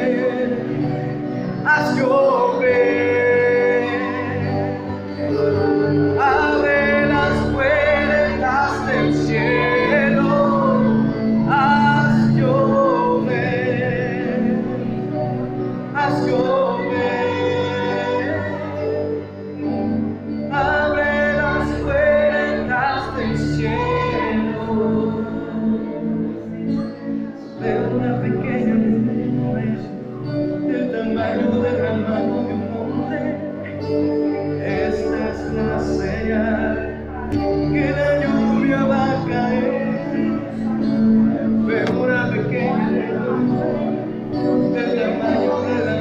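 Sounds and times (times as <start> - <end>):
person singing worship song: 0.0 - 46.0
sustained keyboard accompaniment: 0.0 - 46.0.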